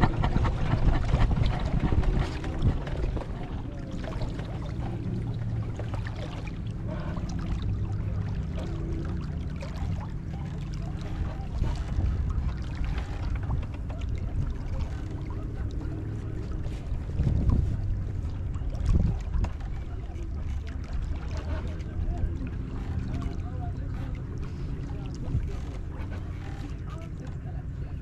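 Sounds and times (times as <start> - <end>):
steady low rumble: 0.0 - 28.0
water rushing along a hull: 0.0 - 28.0.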